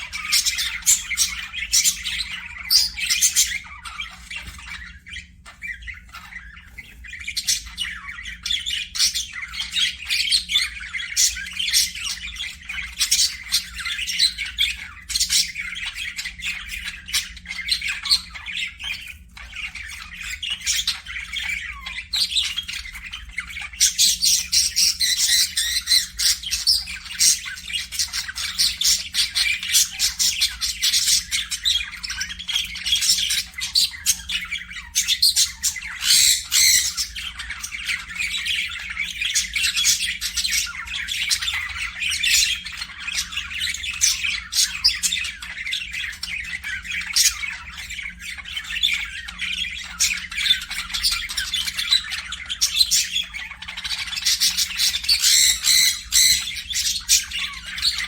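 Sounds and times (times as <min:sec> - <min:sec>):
parakeets chattering: 0:00.0 - 0:58.0.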